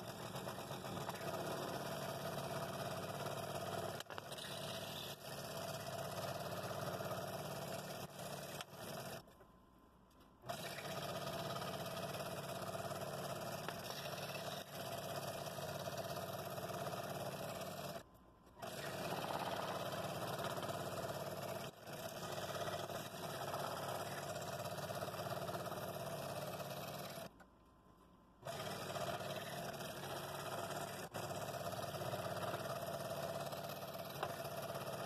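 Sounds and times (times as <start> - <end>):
scroll saw cutting wood: 0.0 - 9.3, 10.4 - 18.0, 18.6 - 27.3, 28.4 - 35.0.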